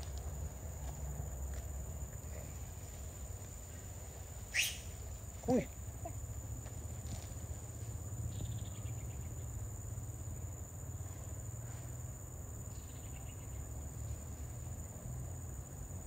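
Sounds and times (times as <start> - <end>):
insects chirping: 0.0 - 16.0
pulsed insect trills: 0.0 - 16.0.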